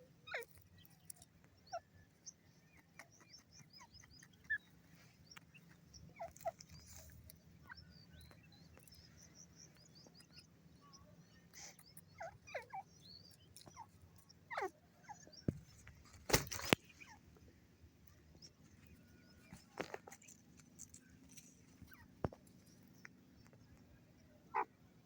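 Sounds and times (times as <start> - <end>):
bird chirps: 0.0 - 24.7.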